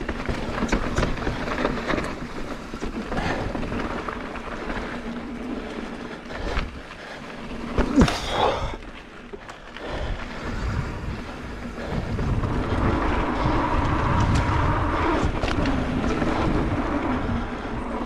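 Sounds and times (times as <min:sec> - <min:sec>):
bike rattling: 0:00.0 - 0:18.0
bike tyres rolling over dirt: 0:00.0 - 0:18.0.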